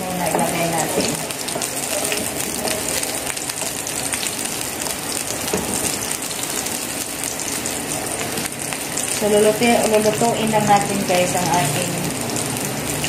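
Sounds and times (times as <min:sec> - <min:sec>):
onion sizzling in frying pan: 0:00.0 - 0:13.0.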